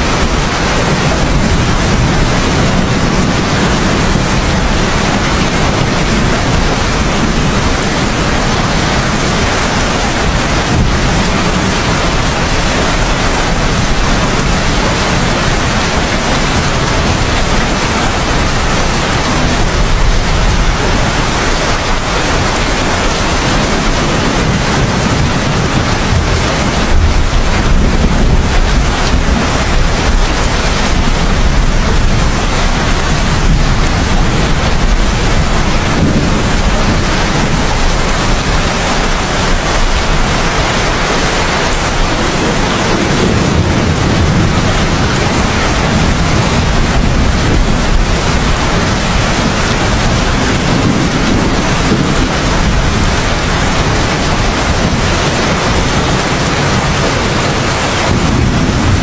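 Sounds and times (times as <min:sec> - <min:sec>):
heavy rainfall: 0:00.0 - 0:59.0
low rumble of thunder: 0:00.0 - 0:59.0.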